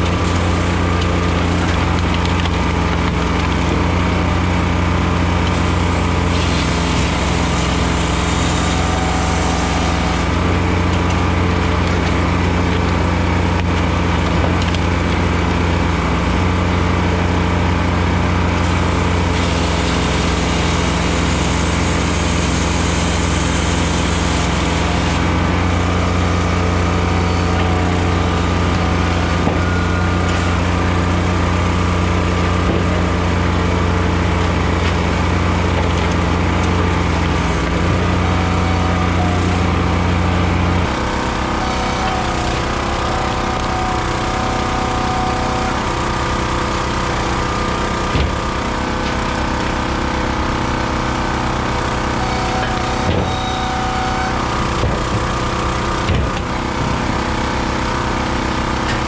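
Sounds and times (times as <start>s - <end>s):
firewood processor engine droning: 0.0s - 59.0s.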